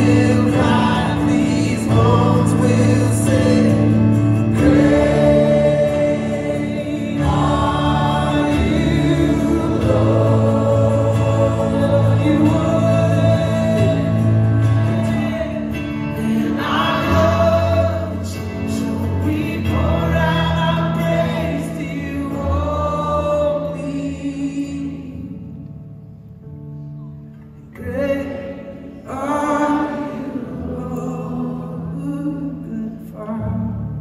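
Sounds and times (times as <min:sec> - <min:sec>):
voices singing together: 0:00.0 - 0:22.9, 0:27.8 - 0:32.8
band holding chords: 0:00.0 - 0:34.0.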